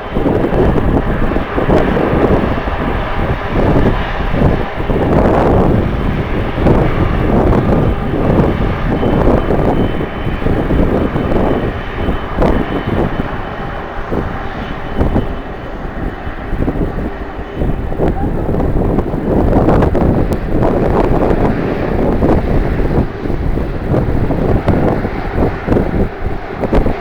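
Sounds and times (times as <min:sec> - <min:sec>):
jet airliner engine noise: 0:00.0 - 0:27.0
wind buffeting microphone: 0:00.0 - 0:27.0.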